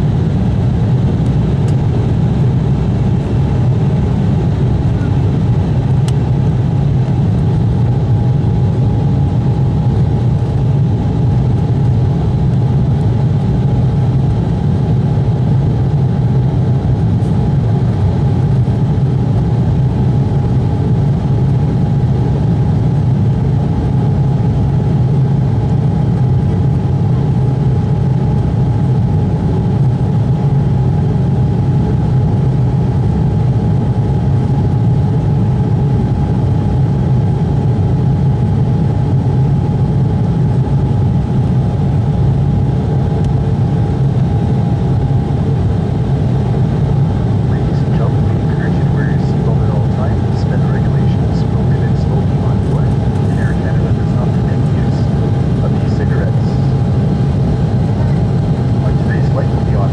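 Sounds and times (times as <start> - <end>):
jet engines heard from cabin: 0.0 - 59.9.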